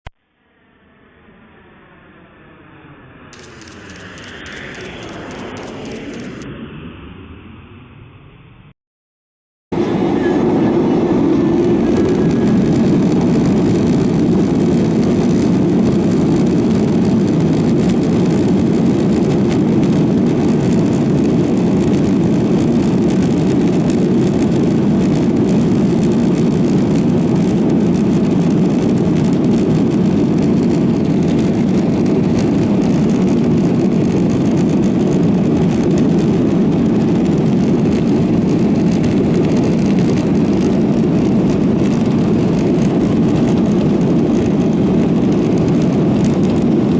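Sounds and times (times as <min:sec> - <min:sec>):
jet engines rumbling: 0:00.5 - 0:08.8, 0:09.7 - 0:46.9.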